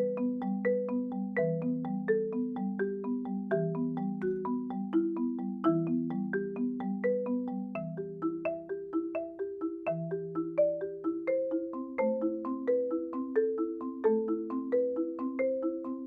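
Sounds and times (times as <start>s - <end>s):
marimba played with mallets: 0.0s - 16.0s.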